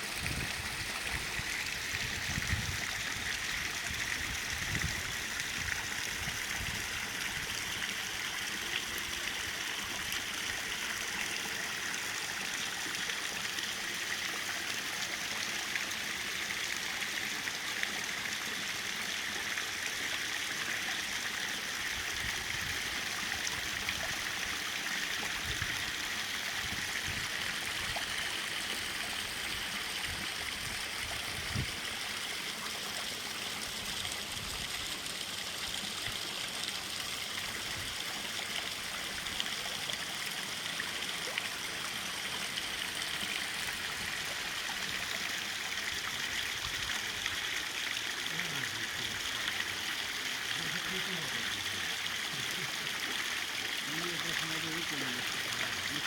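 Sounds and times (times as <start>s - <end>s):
waterfall splashing into pond: 0.0s - 56.0s.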